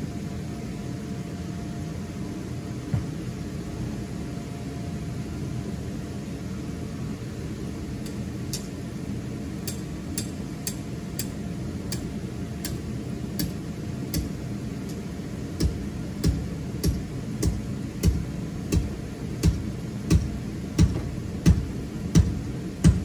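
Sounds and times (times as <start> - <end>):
electric blower fan humming: 0.0 - 23.0.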